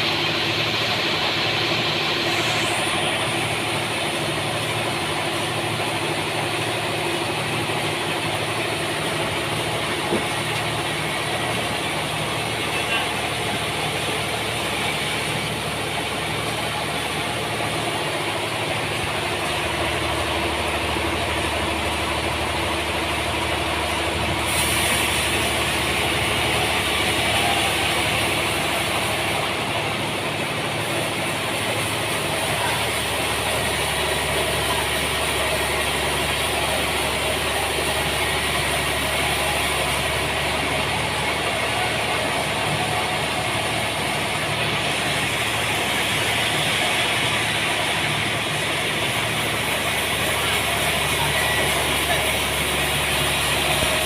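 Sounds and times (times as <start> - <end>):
sawmill mechanical drone: 0.0 - 54.0.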